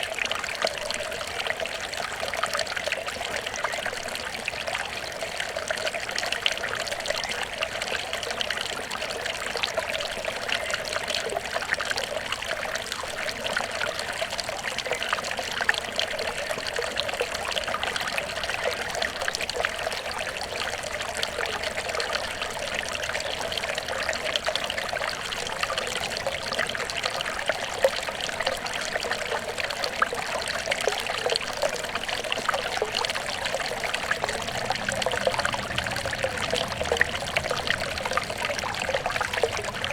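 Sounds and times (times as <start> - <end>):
water trickling in a stream: 0.0 - 39.9.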